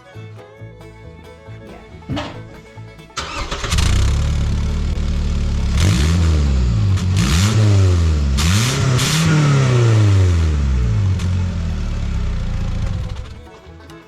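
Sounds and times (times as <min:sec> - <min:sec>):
car engine revving: 0:01.7 - 0:13.5.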